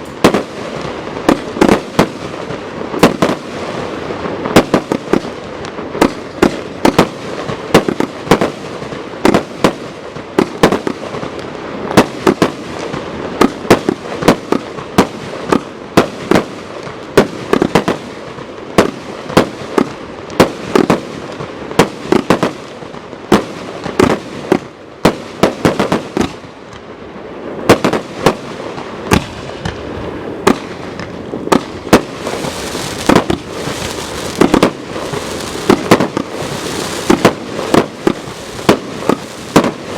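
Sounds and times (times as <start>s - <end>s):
firework bangs: 0.0s - 26.9s, 27.5s - 39.9s
firework crackle hiss: 0.0s - 39.9s.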